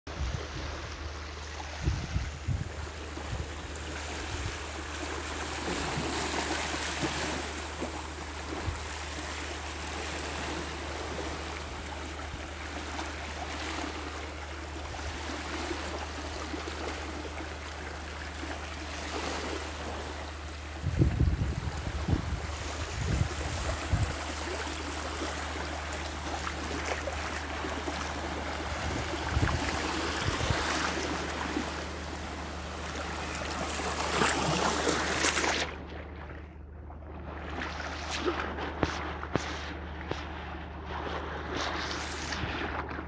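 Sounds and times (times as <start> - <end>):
small waves washing onto sand: 0.1 - 35.9, 37.2 - 43.0
low steady rumble: 0.1 - 43.0.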